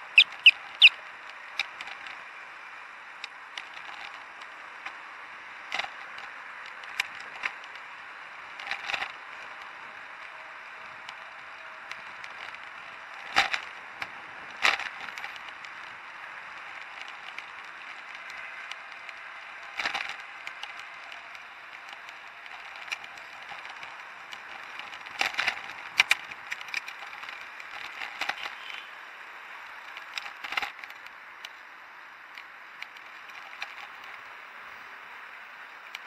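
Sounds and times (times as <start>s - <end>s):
bicycle rattling over bumps: 3.4s - 31.8s, 32.4s - 36.0s.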